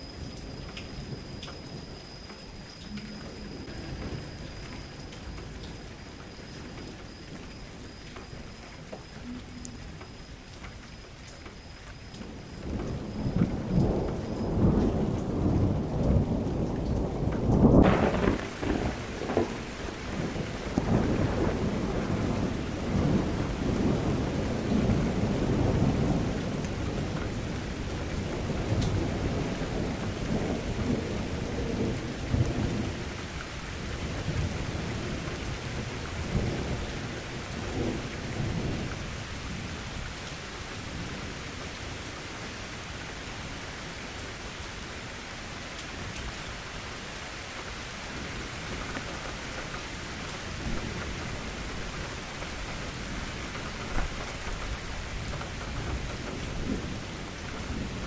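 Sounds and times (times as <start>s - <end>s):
steady rain: 0.0s - 58.0s
thunder rumbling: 0.0s - 58.0s.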